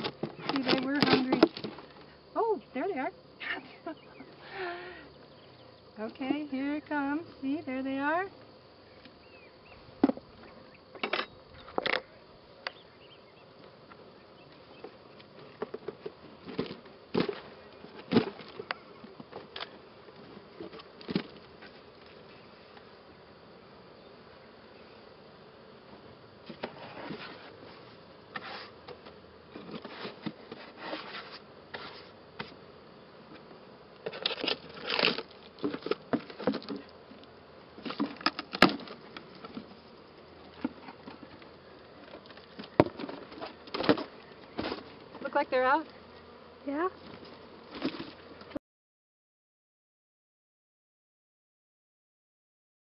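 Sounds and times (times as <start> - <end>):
bees buzzing: 0.0 - 48.6.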